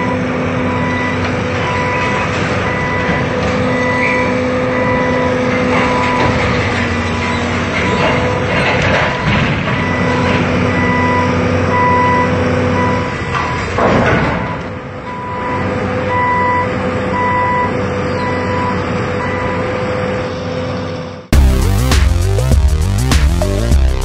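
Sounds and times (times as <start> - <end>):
reversing alarm beeping: 0.0 - 19.7
diesel engine running: 0.0 - 24.0.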